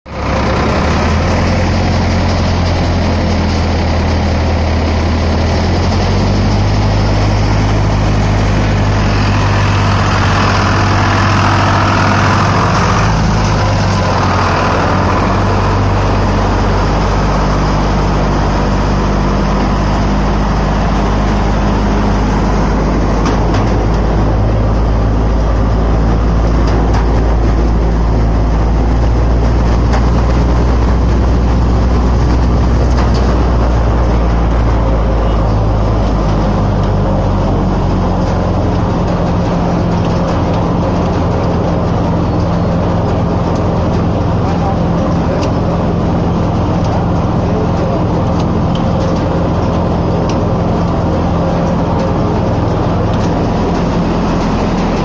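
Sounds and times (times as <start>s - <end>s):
thresher mechanical hum: 0.1s - 55.0s
tractor engine drone: 0.1s - 55.0s.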